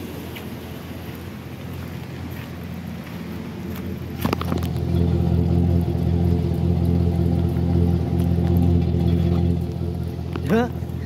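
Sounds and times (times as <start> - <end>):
truck engine idling: 0.2 - 11.0.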